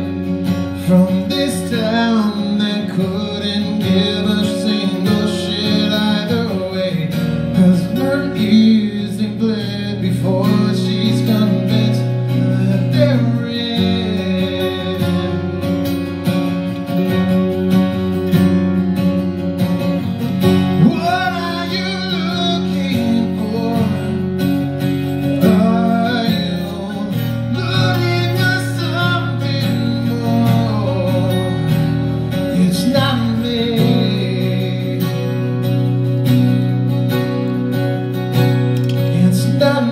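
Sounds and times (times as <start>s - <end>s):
man singing: 0.0s - 15.9s, 20.6s - 35.8s, 38.9s - 39.9s
acoustic guitar strumming: 0.0s - 39.9s.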